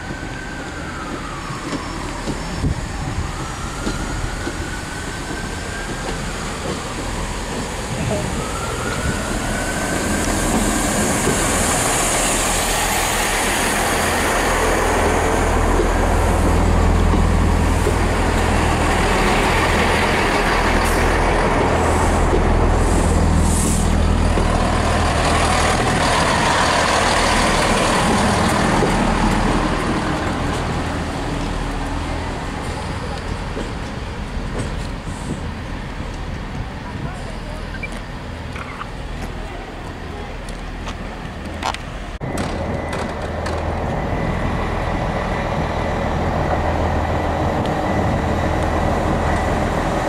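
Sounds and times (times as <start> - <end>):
diesel train rumble: 0.0 - 50.0
wheel and rail noise: 0.0 - 50.0.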